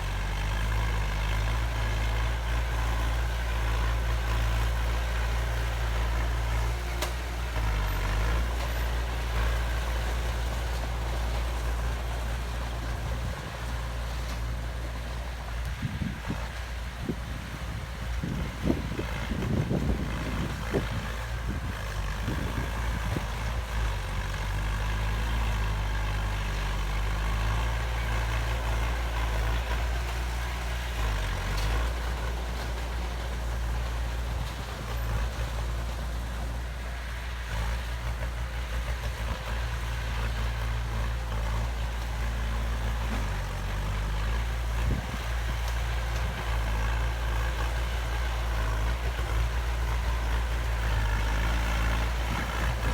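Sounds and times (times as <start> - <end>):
diesel machinery running: 0.0 - 52.9.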